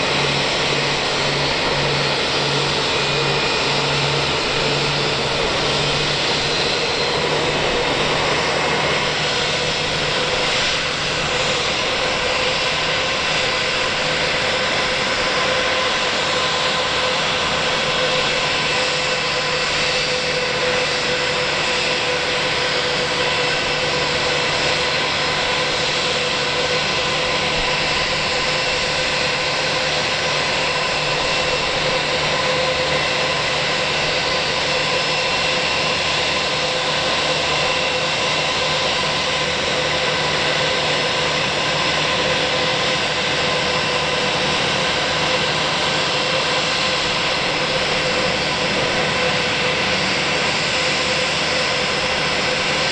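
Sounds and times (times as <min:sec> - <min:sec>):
jet engine whine and rush: 0:00.0 - 0:52.9.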